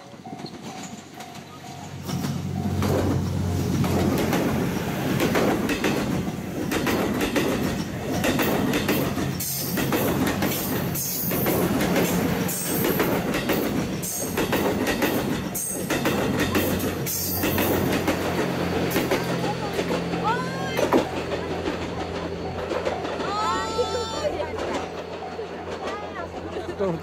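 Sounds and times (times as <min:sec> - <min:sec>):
train engine hum: 0:00.0 - 0:27.0
wheel and rail noise: 0:00.0 - 0:27.0
wheels clattering: 0:00.0 - 0:27.0.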